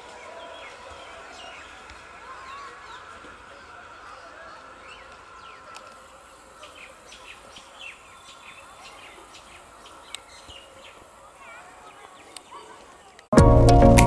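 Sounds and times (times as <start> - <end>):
birds chirping: 0.0 - 13.3.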